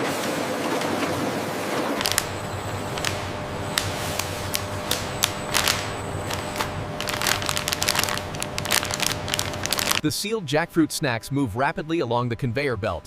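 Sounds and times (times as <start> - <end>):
machinery humming: 1.2 - 13.0.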